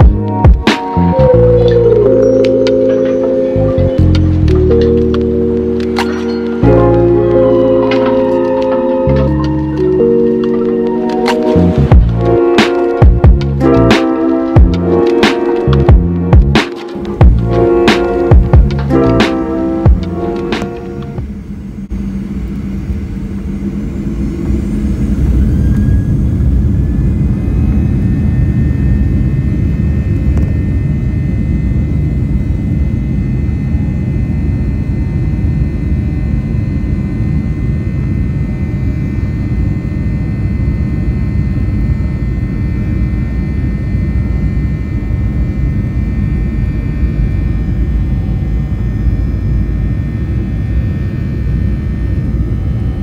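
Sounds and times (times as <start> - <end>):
jet engines from inside cabin: 0.0 - 53.0.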